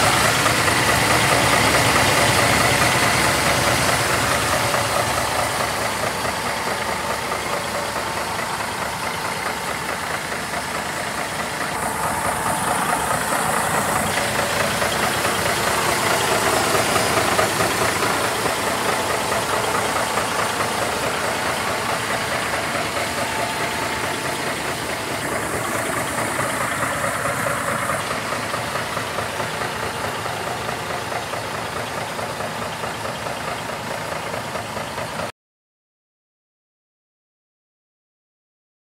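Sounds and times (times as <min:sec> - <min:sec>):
diesel engine idling: 0:00.0 - 0:35.3.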